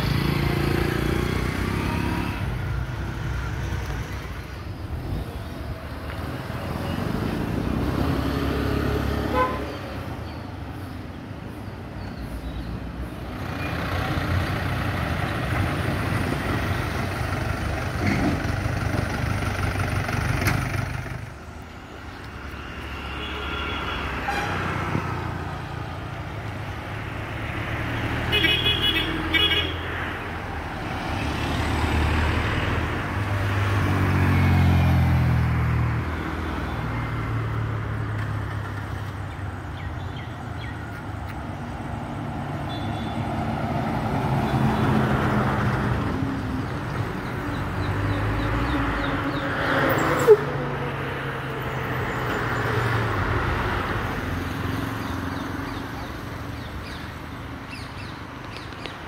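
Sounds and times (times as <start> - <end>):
cars passing by: 0.0 - 59.0.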